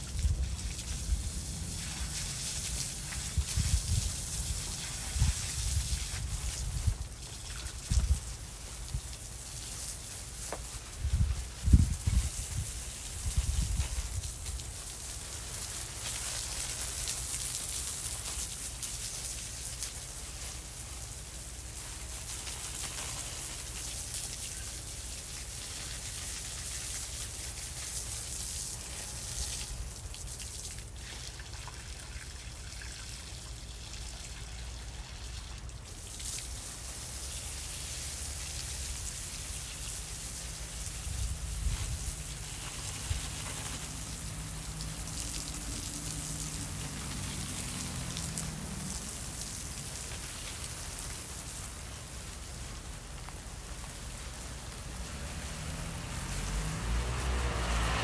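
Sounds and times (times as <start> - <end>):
garden hose spraying water: 0.0 - 58.0.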